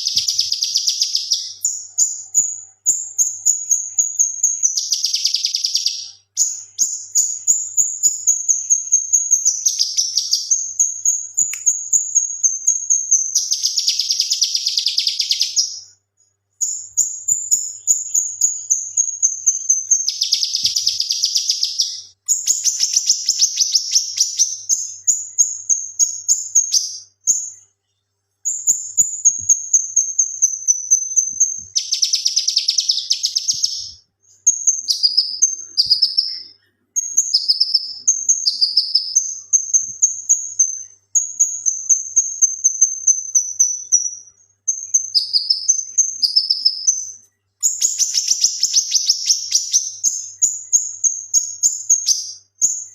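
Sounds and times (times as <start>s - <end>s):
bird singing high-pitched chatter: 0.0s - 52.9s.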